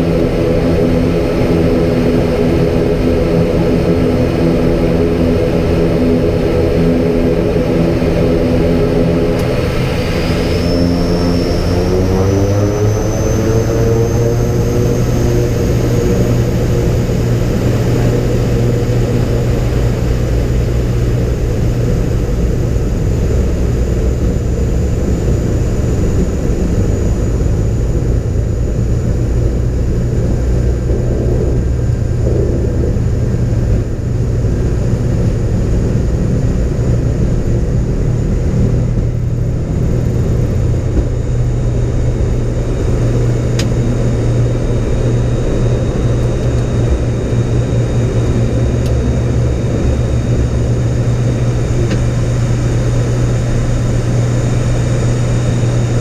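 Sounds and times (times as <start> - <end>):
engine and airflow noise: 0.0 - 56.0
low propeller drone: 0.0 - 56.0.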